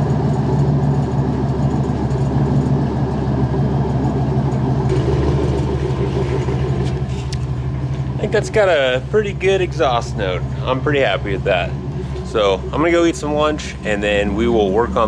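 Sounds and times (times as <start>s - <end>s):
vee eight engine idling: 0.0s - 15.0s.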